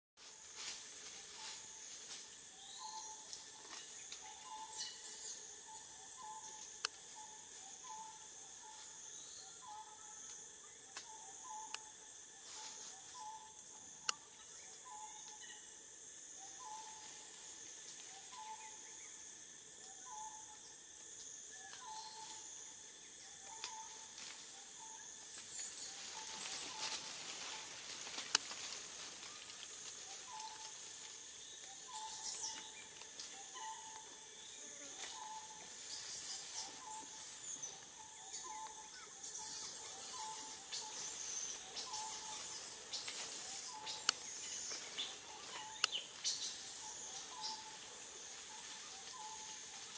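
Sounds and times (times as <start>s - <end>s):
high-pitched insect drone: 0.2s - 49.9s.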